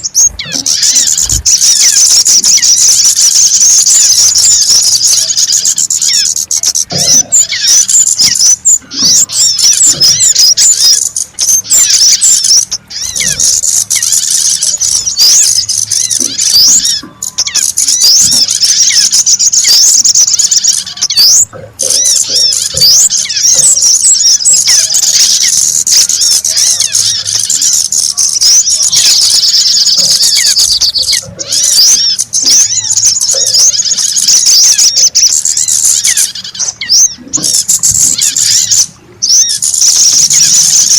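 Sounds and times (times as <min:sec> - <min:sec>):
songbirds chirping and twittering: 0:00.0 - 0:40.9.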